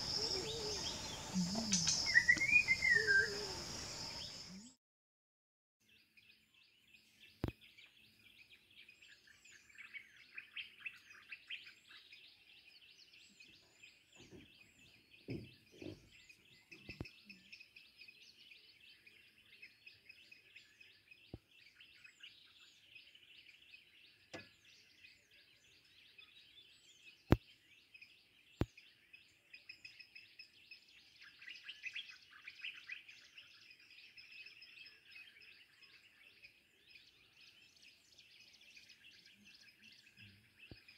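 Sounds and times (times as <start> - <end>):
small birds chirping: 0.0 - 4.8, 5.8 - 40.9.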